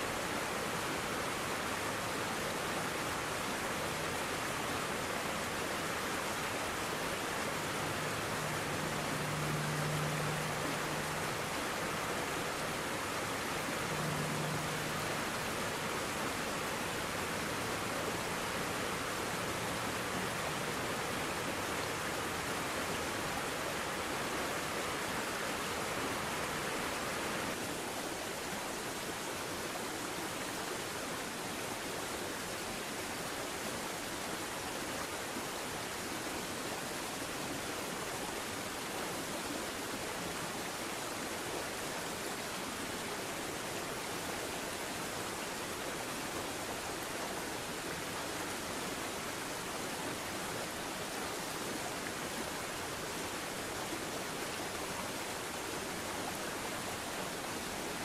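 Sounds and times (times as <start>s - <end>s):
creek water rushing: 0.0s - 58.0s.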